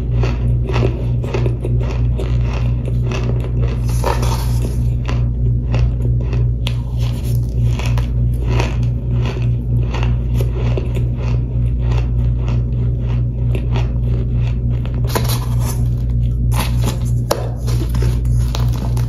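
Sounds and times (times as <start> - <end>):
crunchy chewing: 0.0 - 19.0
steady low hum: 0.0 - 19.0.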